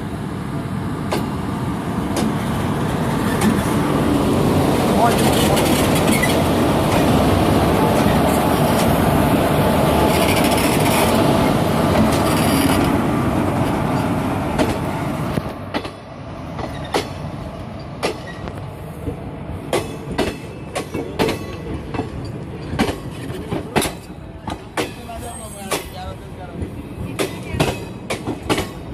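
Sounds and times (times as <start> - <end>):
train wheels rumbling: 0.0 - 28.9
wheels clacking over rail joints: 2.1 - 9.2, 9.9 - 28.9.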